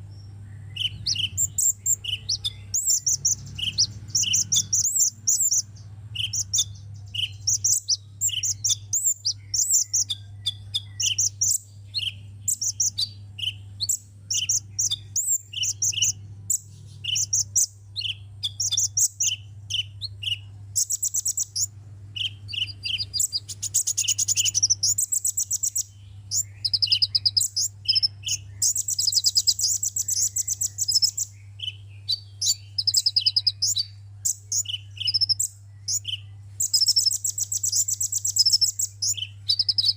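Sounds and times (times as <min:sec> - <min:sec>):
bird chirping and trilling: 0:00.0 - 0:39.9
steady low hum: 0:00.0 - 0:39.9.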